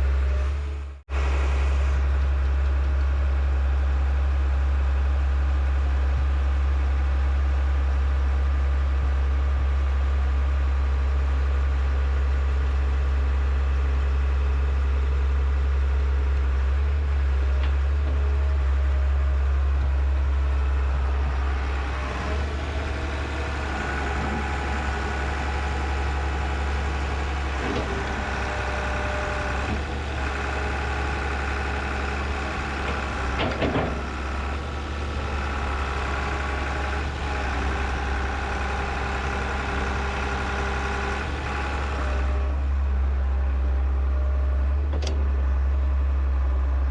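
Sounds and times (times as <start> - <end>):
excavator engine running: 0.0 - 46.9.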